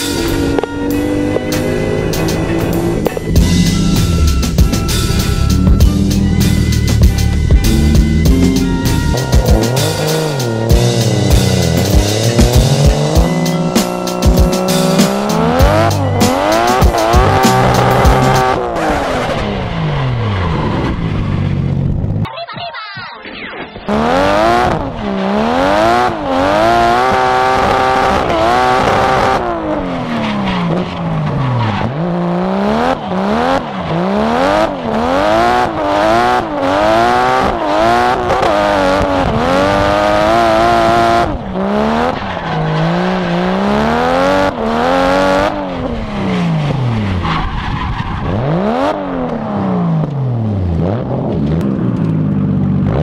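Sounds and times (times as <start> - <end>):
car engine revving hard: 0.0 - 22.1, 23.9 - 53.0.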